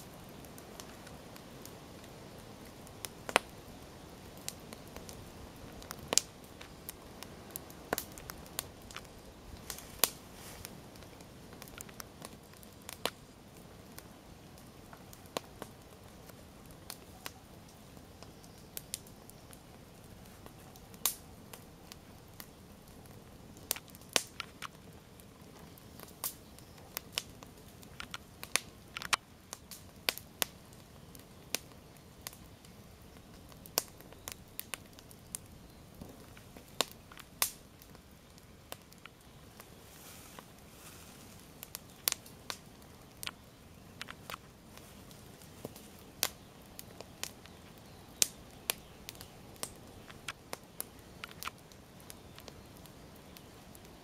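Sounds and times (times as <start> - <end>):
campfire crackling and popping: 0.0 - 54.0
faint steady hiss: 0.0 - 54.0.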